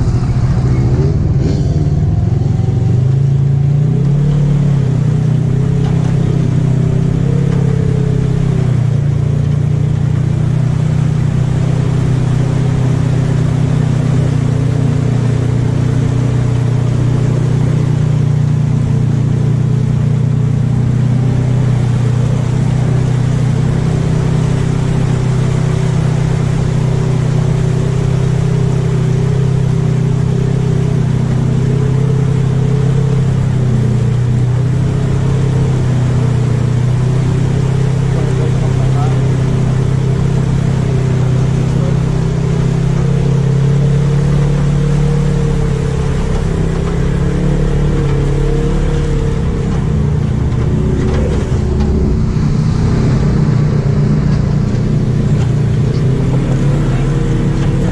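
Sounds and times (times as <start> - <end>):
vehicle engine droning: 0.0 - 57.9.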